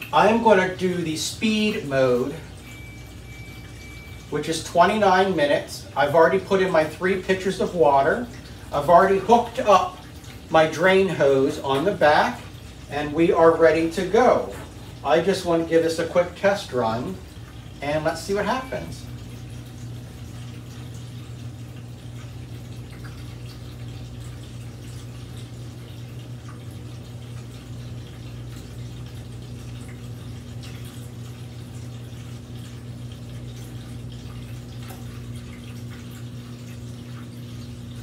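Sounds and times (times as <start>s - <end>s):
dishwasher pump humming: 0.0s - 38.0s
faint water noise: 0.0s - 38.0s.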